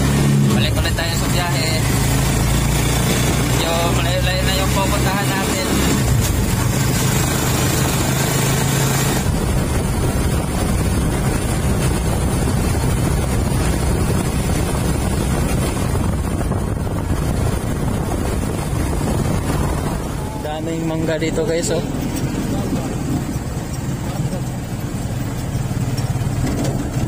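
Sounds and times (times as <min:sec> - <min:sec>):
vehicle engine running: 0:00.0 - 0:27.0
wind rushing over microphone: 0:00.0 - 0:27.0.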